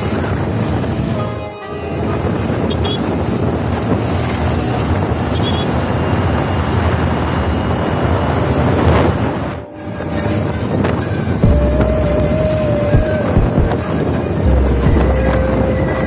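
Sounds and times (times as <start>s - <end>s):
wind buffeting microphone: 0.0s - 1.3s, 1.9s - 16.0s
lorry passing: 0.0s - 5.2s, 6.0s - 16.0s
scooter engine and road noise: 0.0s - 16.0s.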